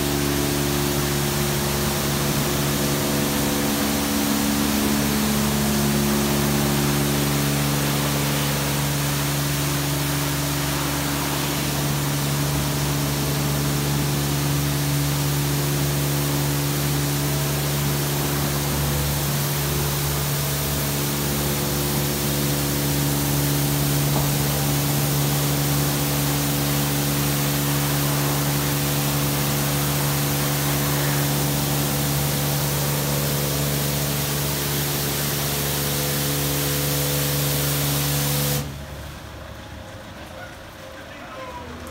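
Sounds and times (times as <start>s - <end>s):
high-pressure water jets hissing: 0.0s - 38.7s
pump motors humming: 0.0s - 41.9s.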